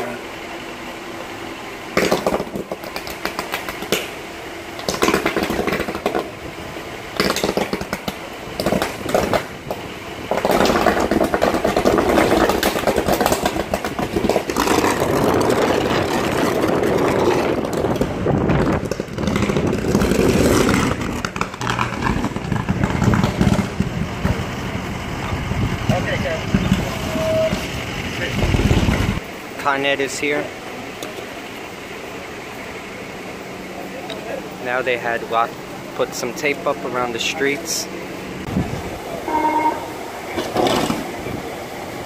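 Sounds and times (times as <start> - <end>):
flames rushing: 0.0 - 39.2
fire crackling and popping: 1.7 - 36.6.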